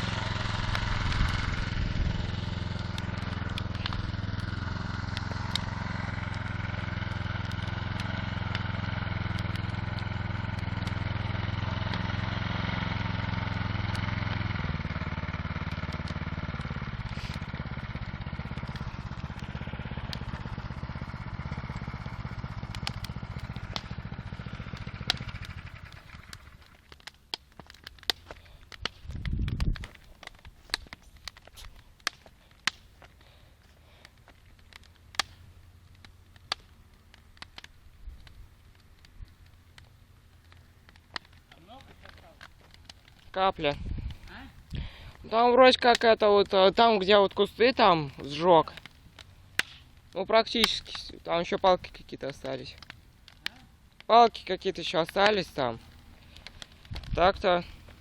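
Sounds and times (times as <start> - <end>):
bonfire crackling and popping: 0.0 - 58.0.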